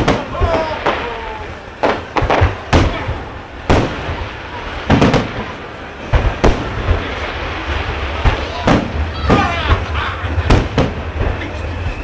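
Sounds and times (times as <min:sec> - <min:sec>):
background rumble: 0:00.0 - 0:12.0
fireworks bangs: 0:00.0 - 0:12.0.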